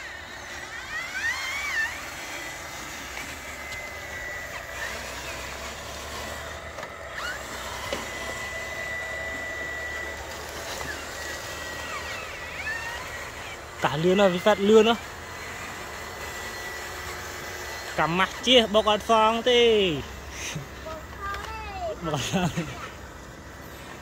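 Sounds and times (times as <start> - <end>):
toy truck motor whining: 0.0 - 24.0.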